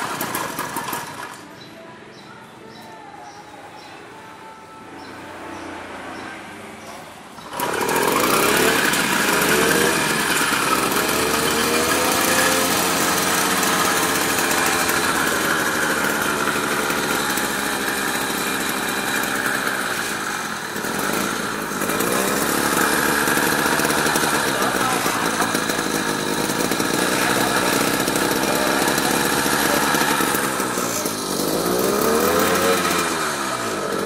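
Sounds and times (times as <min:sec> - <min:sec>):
small two-stroke engine revving: 0:00.0 - 0:01.7, 0:05.5 - 0:34.0.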